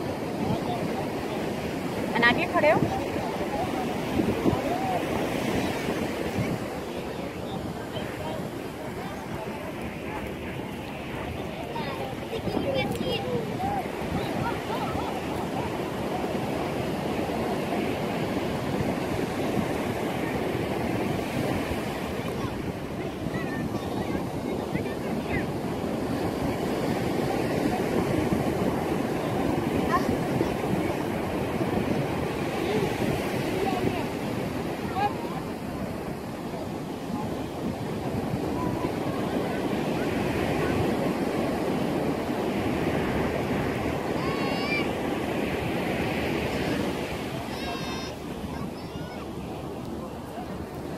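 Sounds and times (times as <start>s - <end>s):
ocean surf washing on shore: 0.0s - 50.9s
wind on microphone: 0.0s - 50.9s.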